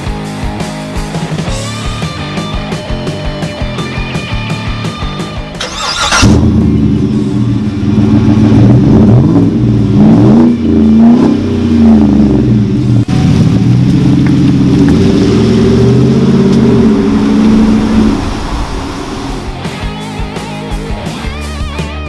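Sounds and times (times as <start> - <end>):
truck engine revving and idling: 0.0 - 22.0.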